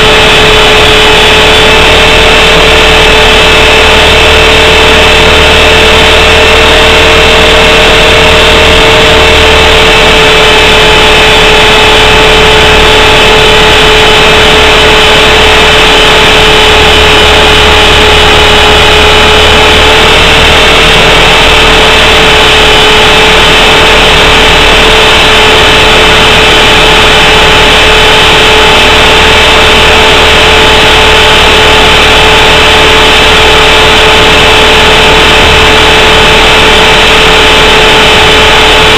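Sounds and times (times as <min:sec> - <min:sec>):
model helicopter motor whine: 0:00.0 - 0:38.9.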